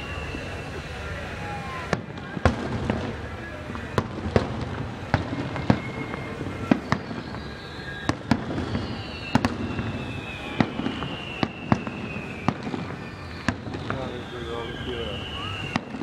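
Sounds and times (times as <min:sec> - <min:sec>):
high falling whistle: 0:00.0 - 0:02.8, 0:05.0 - 0:16.0.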